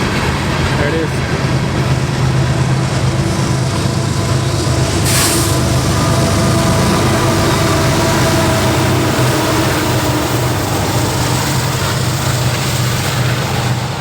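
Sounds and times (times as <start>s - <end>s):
low engine drone: 0.0s - 14.0s
train wheels rumbling on rail: 0.0s - 14.0s.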